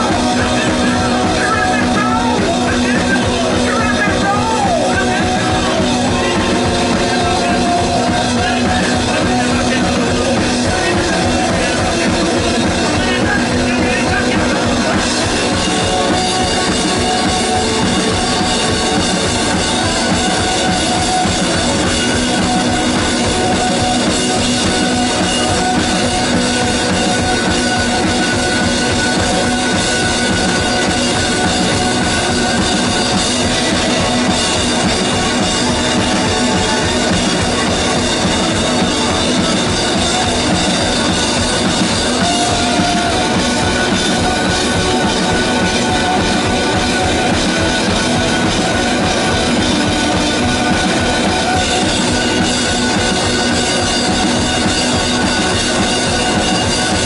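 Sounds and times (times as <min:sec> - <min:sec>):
drum kit: 0:00.0 - 0:57.0
electric guitar: 0:00.0 - 0:57.0
person singing: 0:00.0 - 0:57.0.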